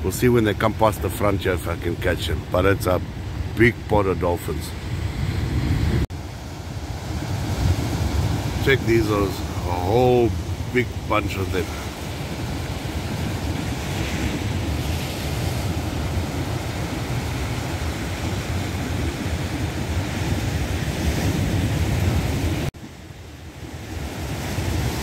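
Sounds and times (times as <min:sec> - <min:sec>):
sea and surf: 0:00.0 - 0:25.0.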